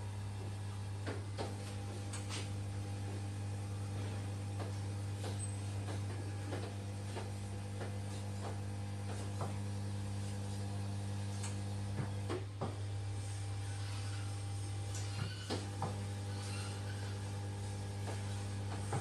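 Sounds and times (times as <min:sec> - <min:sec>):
massage chair motor hum: 0:00.0 - 0:19.0.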